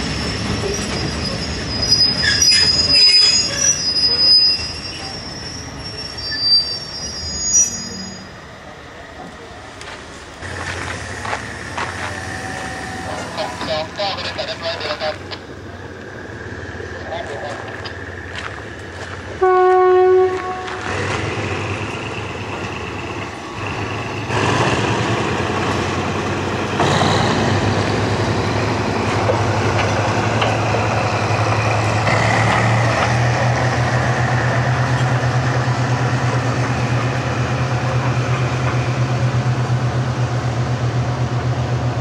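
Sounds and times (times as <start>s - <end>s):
diesel train engine drone: 0.0s - 42.0s.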